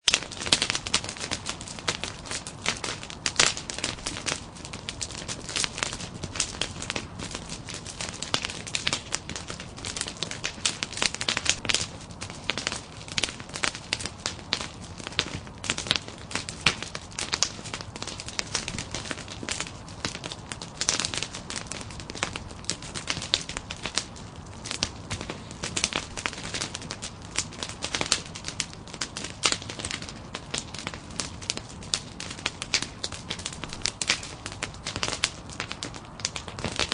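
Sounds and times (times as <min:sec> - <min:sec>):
log fire crackling: 0:00.0 - 0:36.9.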